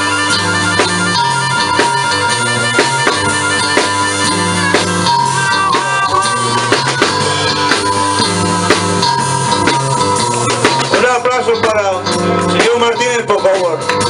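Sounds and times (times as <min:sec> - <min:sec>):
bass line: 0:00.0 - 0:14.0
bending lead line: 0:00.0 - 0:14.0
drum kit beat: 0:00.0 - 0:14.0.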